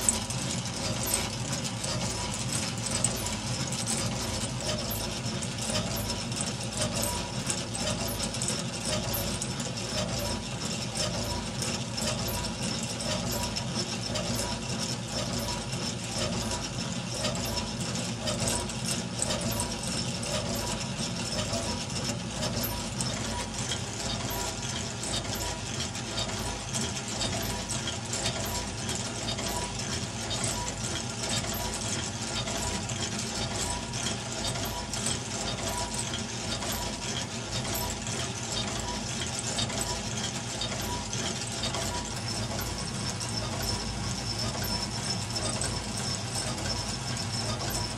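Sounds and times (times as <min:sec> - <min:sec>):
model steam engine running: 0:00.0 - 0:47.9.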